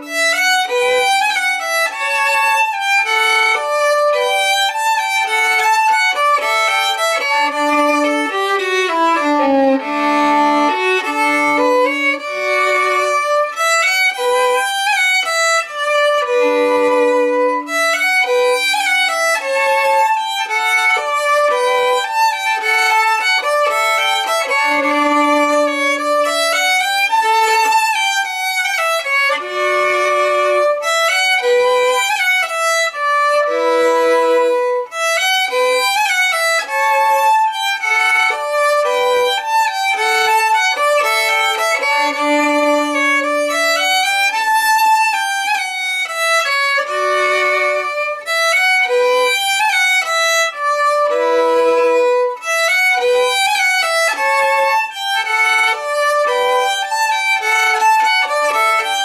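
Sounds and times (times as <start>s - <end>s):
solo violin melody: 0.0s - 59.0s.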